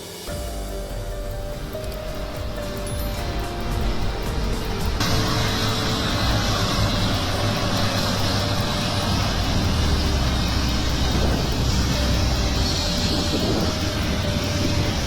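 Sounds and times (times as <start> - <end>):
heavy vehicle engine running: 0.0 - 15.0
rushing noise: 0.0 - 15.0.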